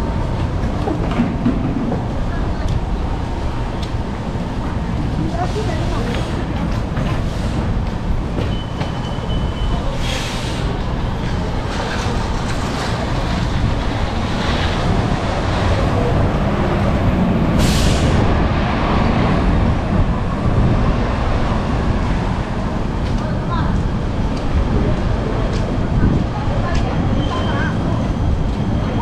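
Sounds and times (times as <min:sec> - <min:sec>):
low rumble of traffic: 0:00.0 - 0:29.0.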